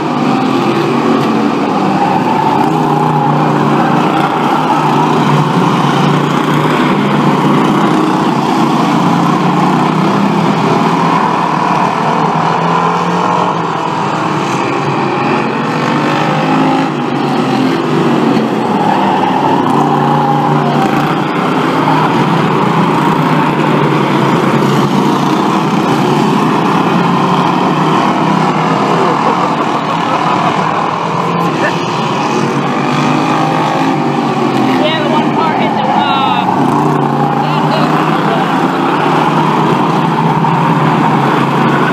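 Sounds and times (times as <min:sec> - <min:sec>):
stock car engines racing: 0:00.0 - 0:41.9.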